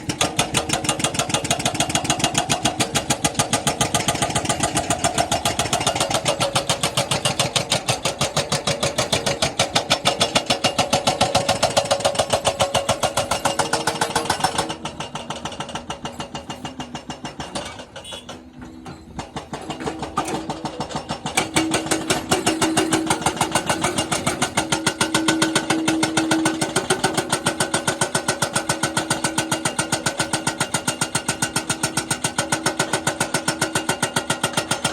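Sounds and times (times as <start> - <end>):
jackhammer rattling: 0.0 - 34.9.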